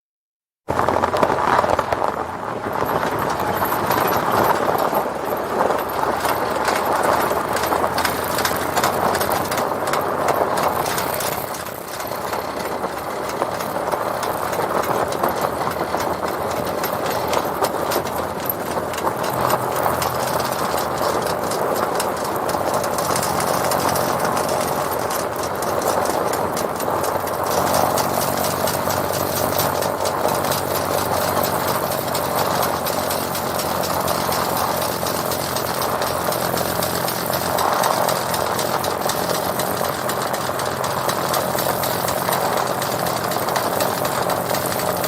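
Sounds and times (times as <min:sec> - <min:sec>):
vehicle engine running: 0:00.6 - 0:45.0
tyre chains rattling: 0:01.9 - 0:45.0.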